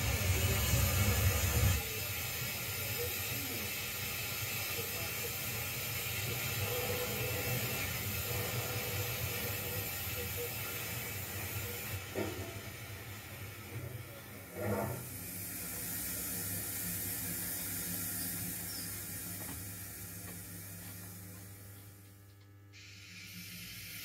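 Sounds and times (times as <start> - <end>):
model locomotive running on track: 0.0 - 19.6.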